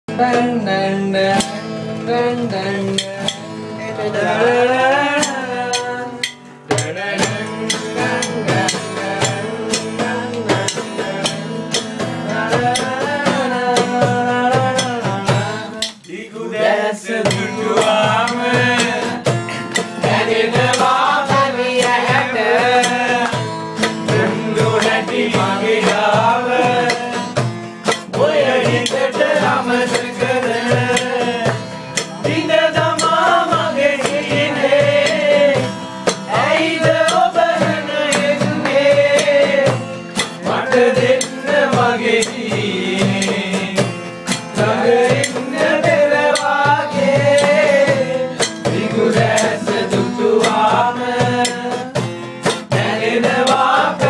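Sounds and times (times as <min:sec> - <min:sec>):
men singing together: 0:00.1 - 0:54.0
hand drum beating: 0:02.4 - 0:03.7, 0:04.5 - 0:16.1, 0:17.2 - 0:54.0.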